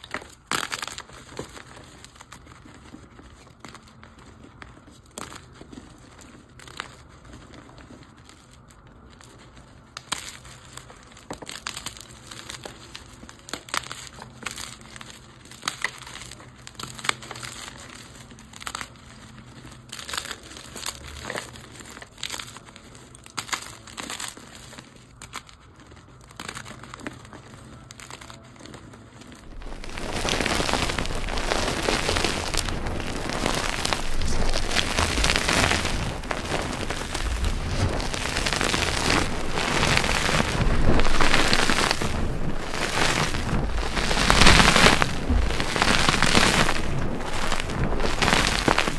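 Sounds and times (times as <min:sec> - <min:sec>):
chalk crunching by hand: 0:00.0 - 0:48.9.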